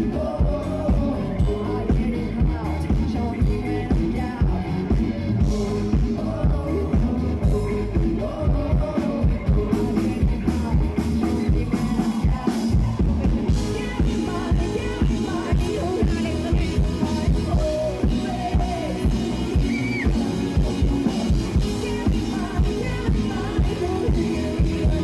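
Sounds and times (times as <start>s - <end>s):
live pop-rock band: 0.0s - 25.0s
person singing: 0.0s - 25.0s.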